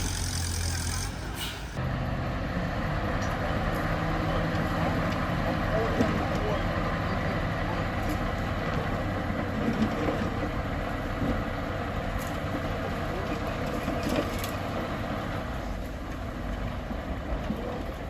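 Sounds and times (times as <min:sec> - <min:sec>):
bulldozer diesel engine: 0:00.0 - 0:18.0.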